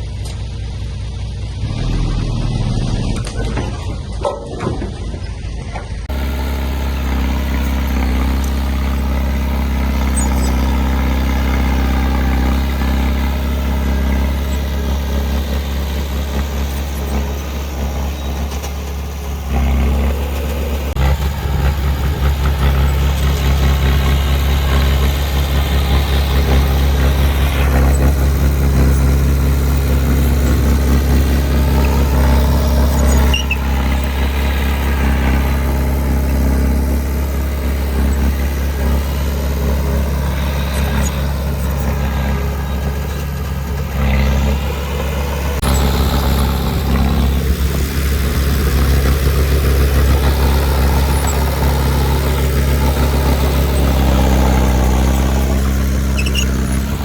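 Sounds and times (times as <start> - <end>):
heavy diesel engine droning: 0.0 - 57.0
mechanical noise: 1.6 - 57.0.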